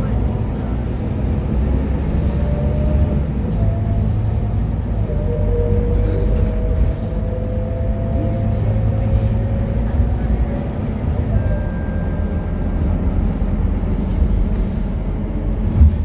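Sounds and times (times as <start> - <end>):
bus diesel engine under load: 0.0 - 16.0.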